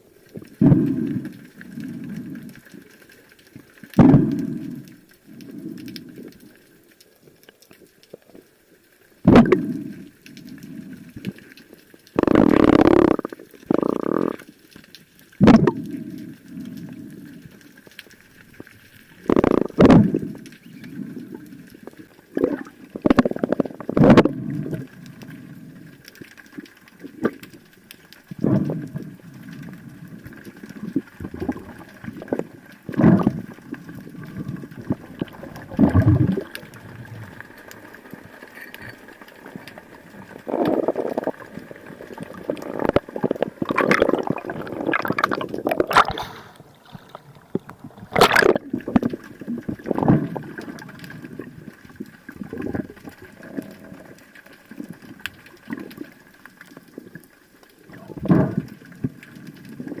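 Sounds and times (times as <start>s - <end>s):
water gurgling underwater: 0.0s - 2.7s, 3.9s - 6.4s, 9.2s - 11.4s, 12.1s - 14.6s, 15.4s - 17.8s, 18.4s - 60.0s.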